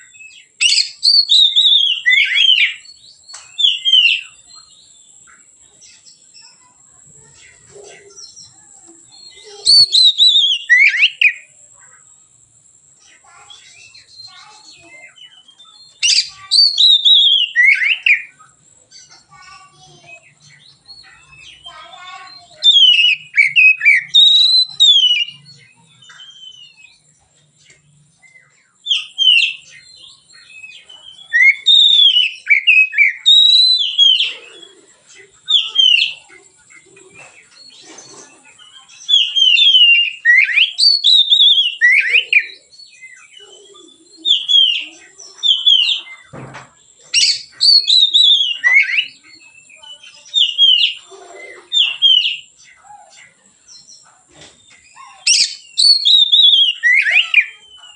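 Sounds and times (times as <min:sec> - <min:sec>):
bird singing whistled phrases: 0:00.0 - 0:06.7, 0:08.0 - 0:11.6, 0:13.0 - 0:27.1, 0:28.2 - 0:36.3, 0:37.6 - 0:46.3, 0:47.1 - 0:57.9
bird chattering calls: 0:00.0 - 0:12.2, 0:13.0 - 0:27.0, 0:28.8 - 0:57.9.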